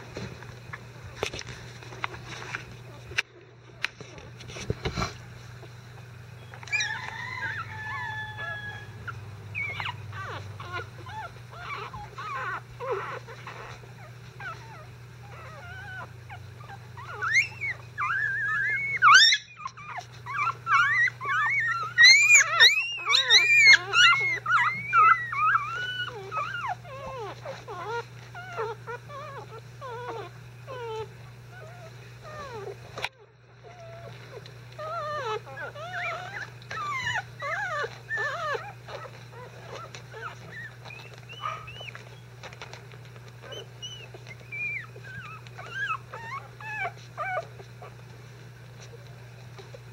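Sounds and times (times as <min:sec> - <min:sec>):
puppies whimpering and squeaking: 0:04.0 - 0:49.9.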